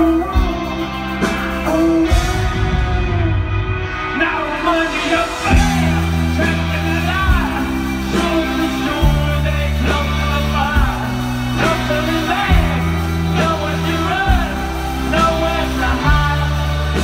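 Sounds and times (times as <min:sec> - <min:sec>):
man singing: 0:00.0 - 0:17.0
rock band playing live: 0:00.0 - 0:17.0.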